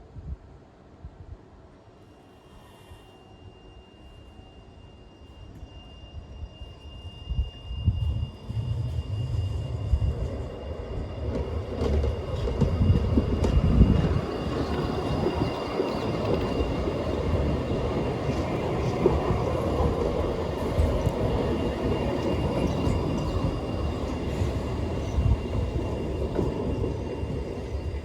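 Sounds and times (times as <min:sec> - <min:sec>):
tram rumbling on rails: 0:02.5 - 0:28.0.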